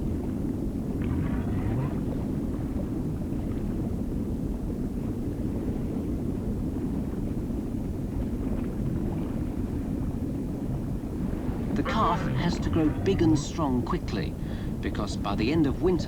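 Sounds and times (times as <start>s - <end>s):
low rumble of ocean water: 0.0s - 16.0s.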